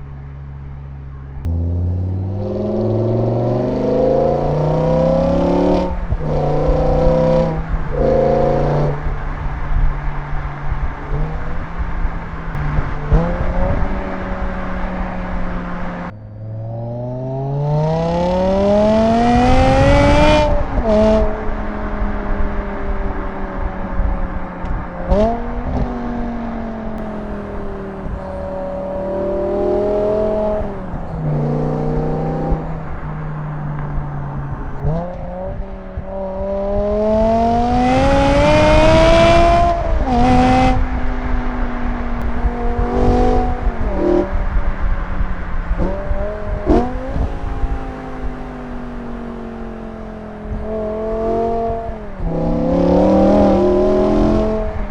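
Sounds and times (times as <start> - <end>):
car engine revving: 0.0 - 26.2, 26.8 - 54.9.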